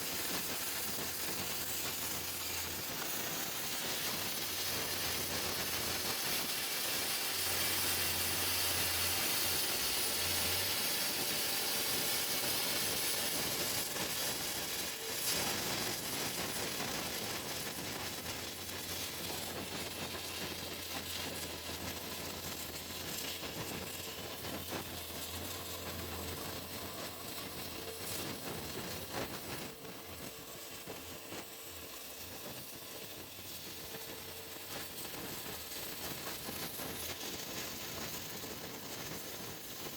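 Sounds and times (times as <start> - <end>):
low electrical hum: 0.0 - 39.5
plasma cutter hiss: 0.0 - 39.9.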